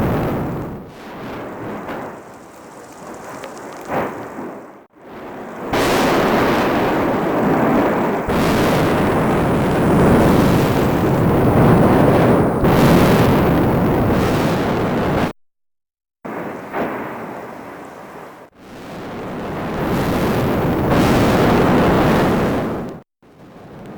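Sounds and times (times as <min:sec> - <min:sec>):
volcano erupting: 0:00.0 - 0:15.3, 0:16.3 - 0:23.9.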